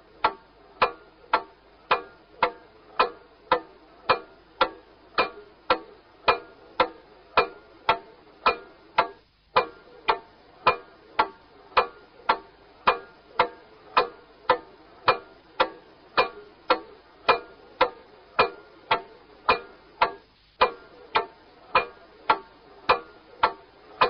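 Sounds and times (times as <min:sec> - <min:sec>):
clock ticking: 0:00.0 - 0:24.0.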